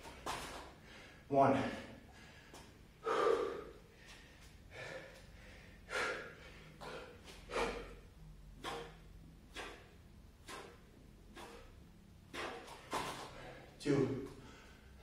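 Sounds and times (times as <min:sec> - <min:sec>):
man breathing hard: 0:00.0 - 0:15.0.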